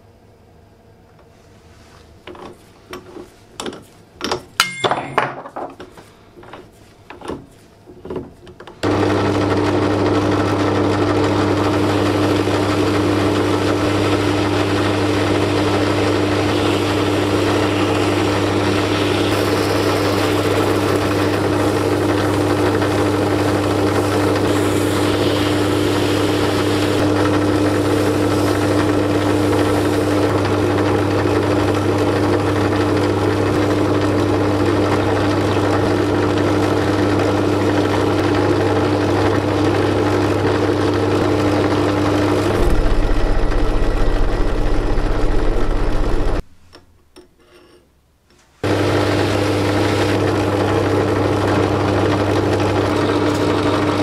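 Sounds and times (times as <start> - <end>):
drill press motor humming: 6.4 - 38.4, 39.2 - 46.5, 48.6 - 54.0.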